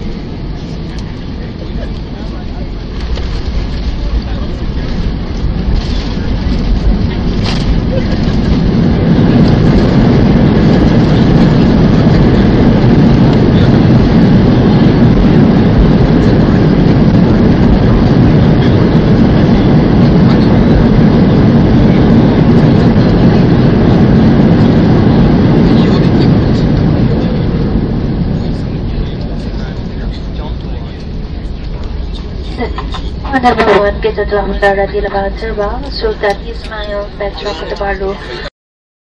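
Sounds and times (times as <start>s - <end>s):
aircraft cabin rumbling roar: 0.0s - 38.5s.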